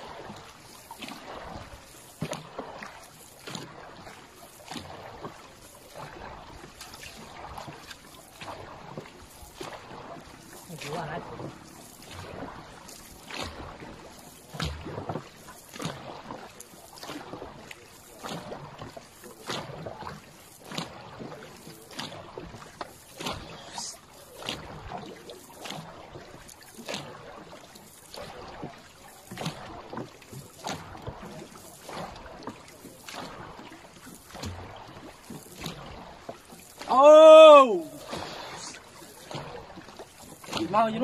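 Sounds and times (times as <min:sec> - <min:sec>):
paddles striking water: 0:00.0 - 0:41.0
water rushing along hull: 0:00.0 - 0:41.0.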